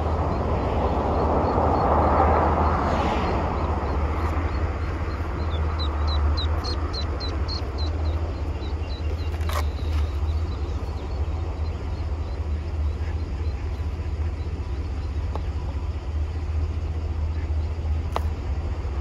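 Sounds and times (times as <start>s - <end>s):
ducklings peeping: 0.0s - 18.6s
steady low rumble: 0.0s - 19.0s.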